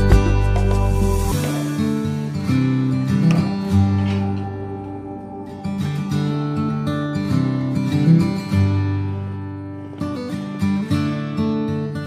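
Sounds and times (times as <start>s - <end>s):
acoustic guitar strummed and plucked: 0.0s - 12.0s.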